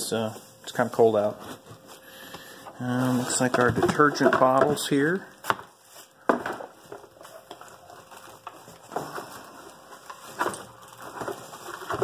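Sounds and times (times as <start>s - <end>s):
plastic packaging rustling: 0.2s - 12.0s.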